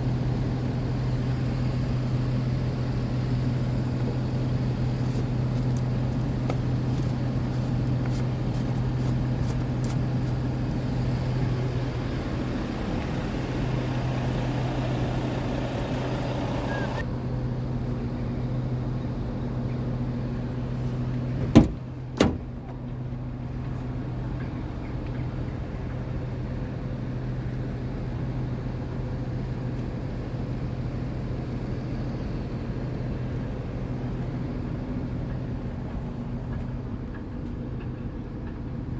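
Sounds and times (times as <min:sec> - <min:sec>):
diesel truck engine idling: 0:00.0 - 0:38.8.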